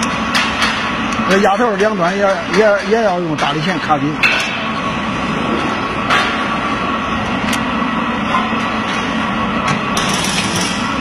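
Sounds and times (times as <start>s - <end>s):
industrial machinery noise: 0.0s - 11.0s.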